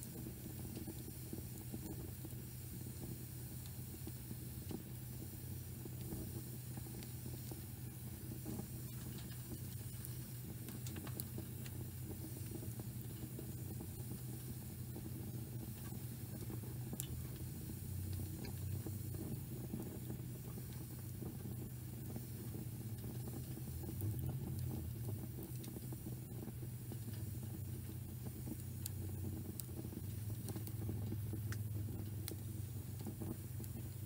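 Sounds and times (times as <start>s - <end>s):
fire rumbling in stove: 0.0s - 34.0s
logs crackling and popping: 0.0s - 34.0s.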